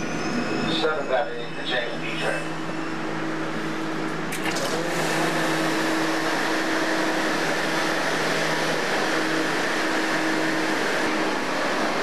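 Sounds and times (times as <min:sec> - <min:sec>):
subway train humming at platform: 0:00.0 - 0:12.0.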